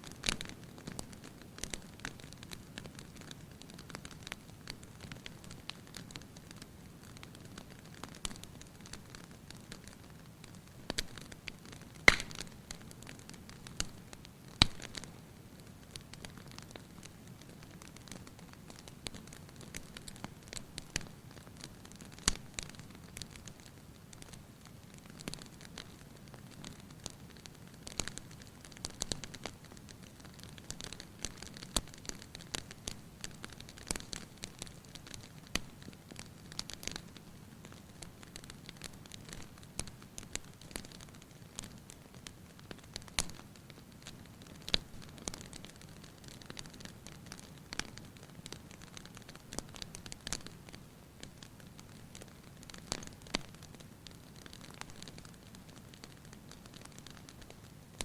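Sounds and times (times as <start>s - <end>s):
fire popping and snapping: 0.0s - 58.0s.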